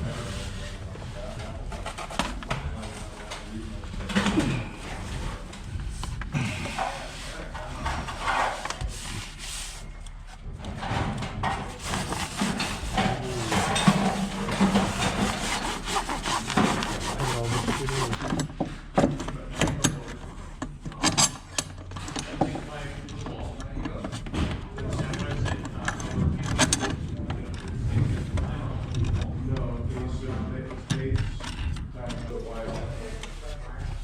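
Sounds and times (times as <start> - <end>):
rubbing and scraping insulation: 0.0 - 34.0.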